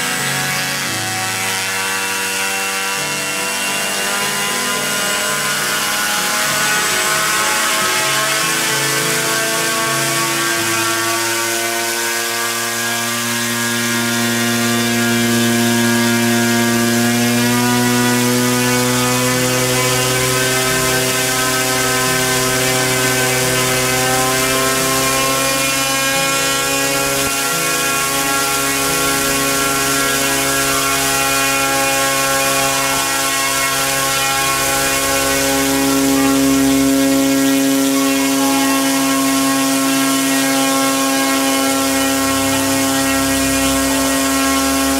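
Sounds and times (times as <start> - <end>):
electric motor humming and whining: 0.0 - 44.9.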